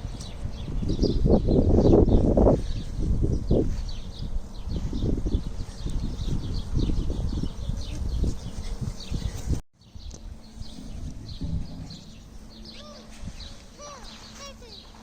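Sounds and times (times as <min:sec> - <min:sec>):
low rumbling and thumps: 0:00.0 - 0:13.9
small birds chirping: 0:00.0 - 0:15.0.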